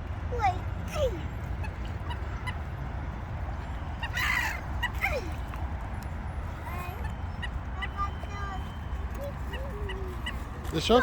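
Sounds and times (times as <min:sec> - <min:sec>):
gulls calling: 0:00.3 - 0:05.6, 0:06.4 - 0:11.0.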